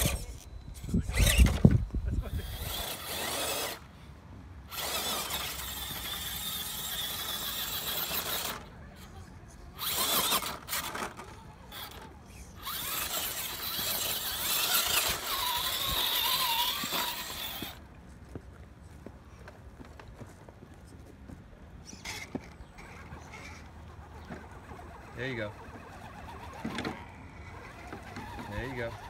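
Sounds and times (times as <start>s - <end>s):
electric motor whining: 0.0s - 3.9s, 4.7s - 17.8s, 21.9s - 29.0s.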